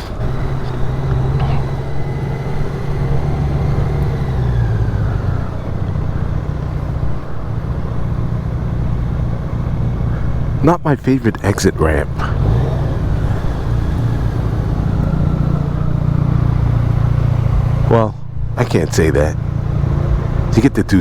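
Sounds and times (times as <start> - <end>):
motorcycle engine running: 0.0 - 20.8
wind and road noise: 0.0 - 21.0.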